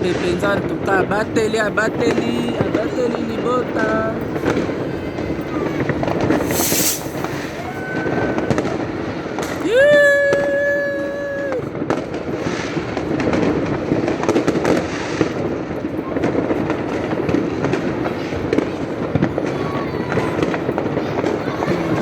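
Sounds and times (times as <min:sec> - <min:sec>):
fireworks crackling and popping: 0:00.0 - 0:22.0.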